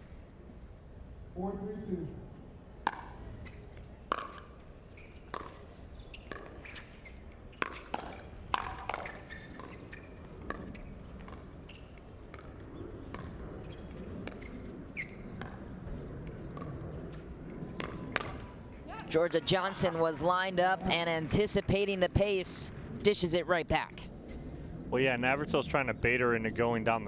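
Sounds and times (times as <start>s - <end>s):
low background noise: 0.0s - 27.0s.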